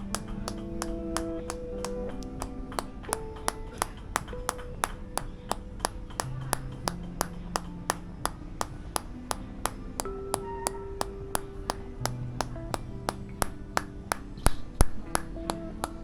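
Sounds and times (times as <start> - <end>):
soft background music: 0.0 - 16.0
wooden mallet tapping wood: 0.0 - 16.0.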